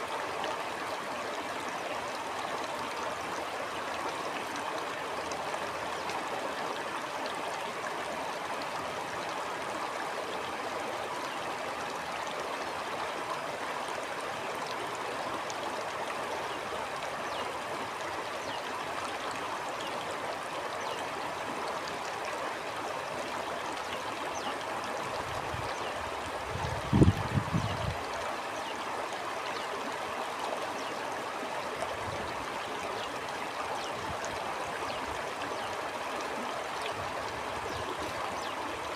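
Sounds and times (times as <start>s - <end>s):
stream water gurgling: 0.0s - 38.9s.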